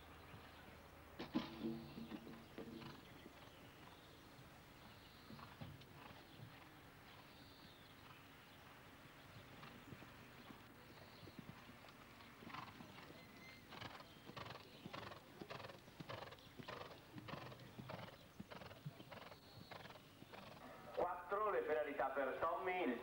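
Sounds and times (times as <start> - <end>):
horse cantering on sand: 1.2 - 21.2.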